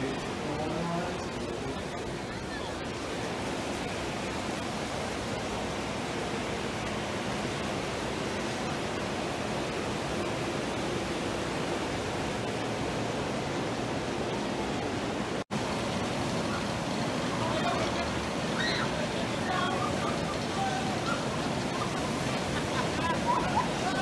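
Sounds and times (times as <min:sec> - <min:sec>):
churning water rushing: 0:00.0 - 0:24.0.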